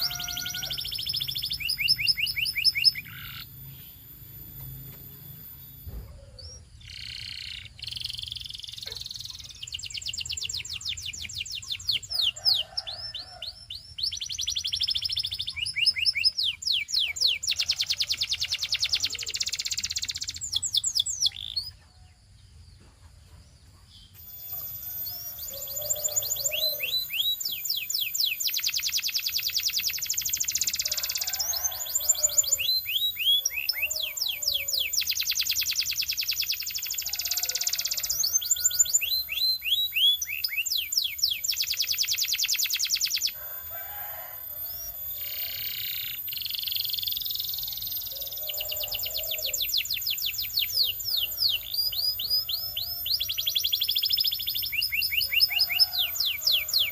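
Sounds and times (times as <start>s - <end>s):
canary singing trills: 0.0s - 22.2s, 23.7s - 56.9s.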